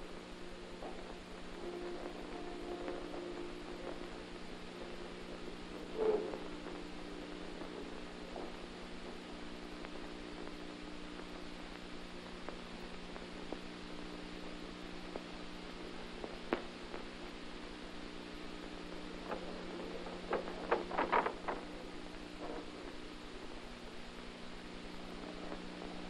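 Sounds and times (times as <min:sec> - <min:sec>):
low electrical hum: 0:00.0 - 0:26.0
clicks and crackles: 0:00.1 - 0:26.0.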